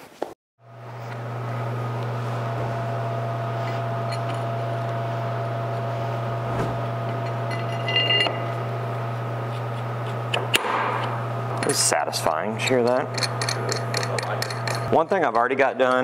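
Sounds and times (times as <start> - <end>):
heater humming: 0.6 - 16.0.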